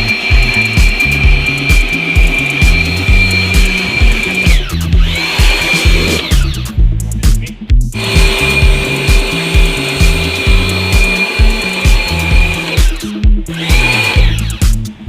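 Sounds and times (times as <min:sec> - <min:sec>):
pressure washer motor whine: 0:00.0 - 0:06.5, 0:08.0 - 0:14.6
background music with beat: 0:00.0 - 0:15.0.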